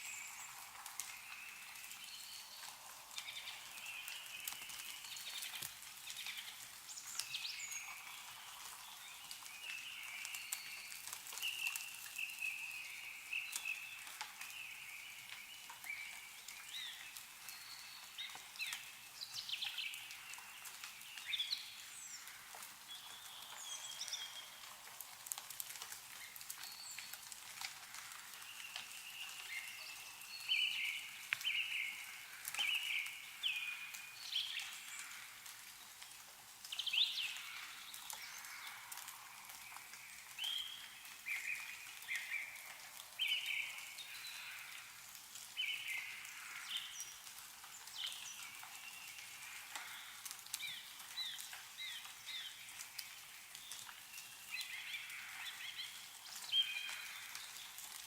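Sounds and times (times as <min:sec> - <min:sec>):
meltwater dripping from trees: 0:00.0 - 0:58.0.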